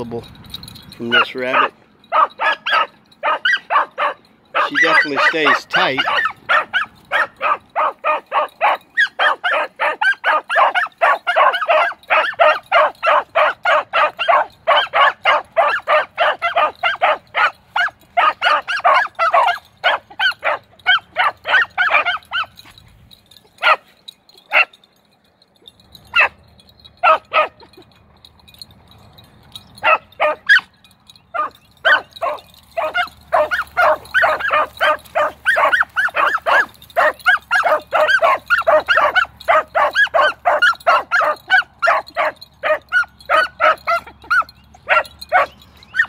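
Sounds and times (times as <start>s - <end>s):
dogs barking and yipping: 0.0s - 46.0s.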